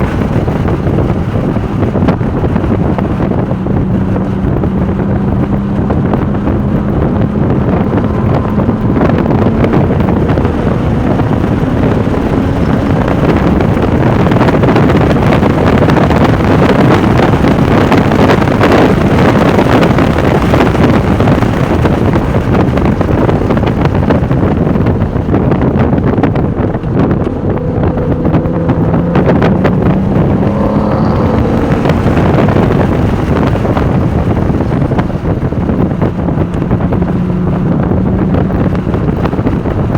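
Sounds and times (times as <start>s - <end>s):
car engine running hard: 0.0s - 39.9s
wind noise on microphone: 0.0s - 39.9s.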